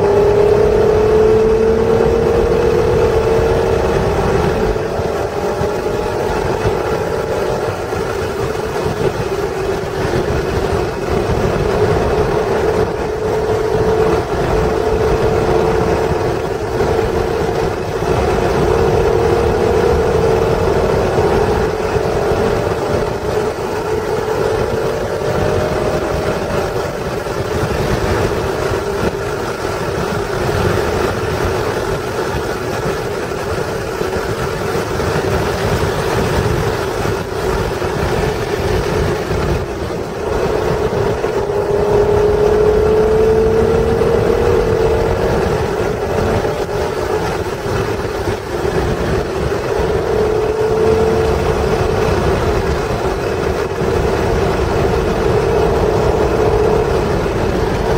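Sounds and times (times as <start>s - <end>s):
car engine accelerating: 0.0s - 57.9s
tyre and road noise: 0.0s - 57.9s.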